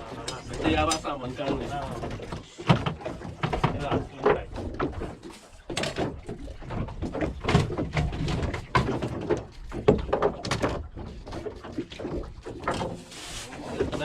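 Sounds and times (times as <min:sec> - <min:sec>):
knocking and clattering: 0:00.2 - 0:13.0.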